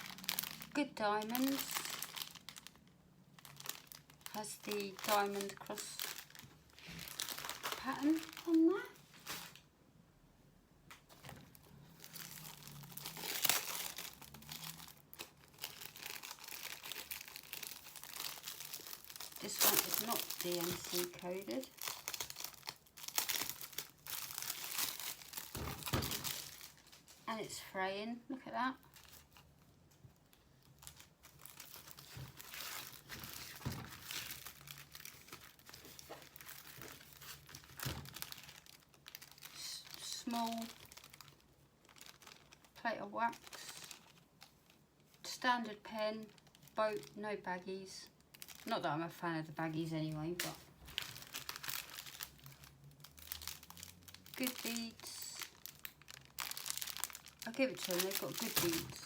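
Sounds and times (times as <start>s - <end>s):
plastic packaging crinkling: 0.0s - 9.7s, 11.1s - 27.3s, 28.8s - 47.2s, 48.0s - 48.9s, 49.7s - 59.0s.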